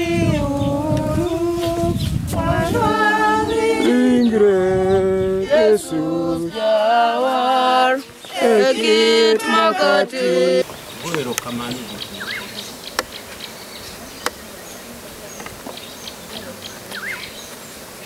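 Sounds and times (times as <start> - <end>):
voices singing a hymn: 0.0 - 17.9.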